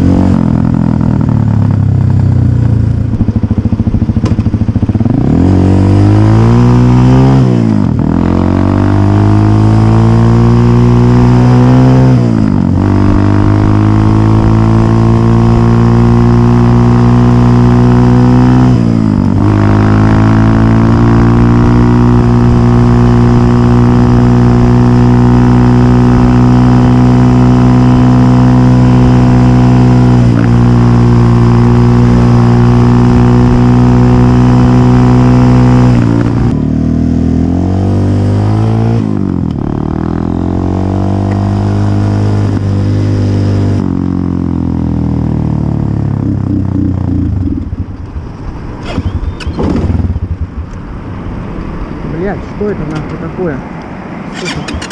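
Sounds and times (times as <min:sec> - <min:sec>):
dirt bike engine revving: 0:00.0 - 0:01.8, 0:04.2 - 0:48.0.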